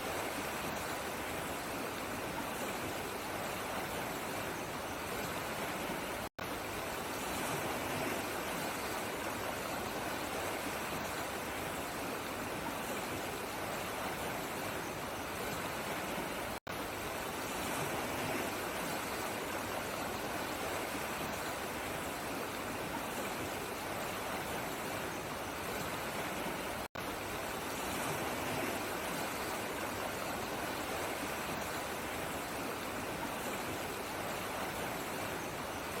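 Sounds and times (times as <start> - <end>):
flowing water rushing: 0.0 - 36.0.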